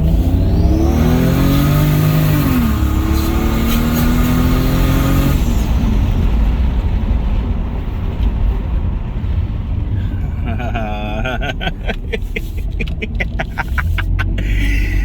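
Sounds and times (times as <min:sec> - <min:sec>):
car engine accelerating hard: 0:00.0 - 0:15.0
road and wind noise: 0:00.0 - 0:15.0.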